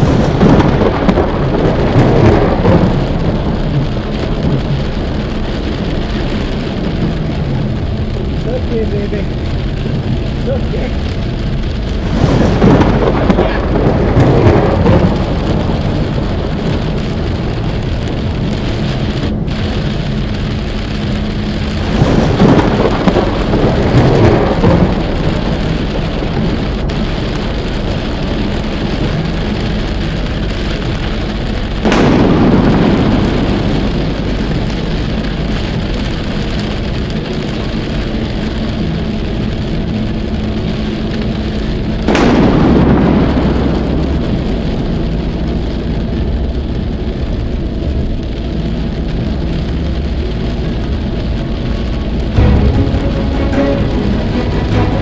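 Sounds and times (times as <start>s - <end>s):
heavy rain on car: 0.0s - 55.0s.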